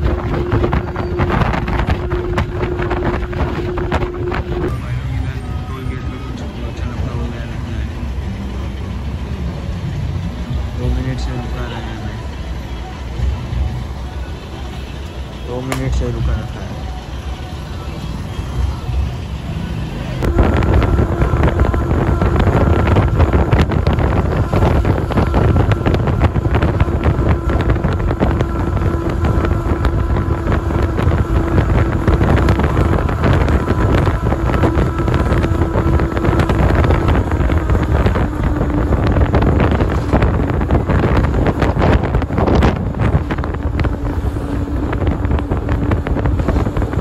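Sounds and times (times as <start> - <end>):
motorcycle engine hum: 0.0 - 47.0
wind buffeting microphone: 0.0 - 47.0.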